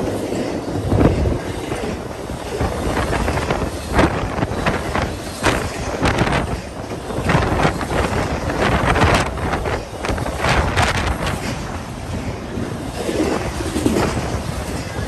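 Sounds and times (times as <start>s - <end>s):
freight train rolling past: 0.0s - 15.0s
wind buffeting microphone: 0.0s - 15.0s.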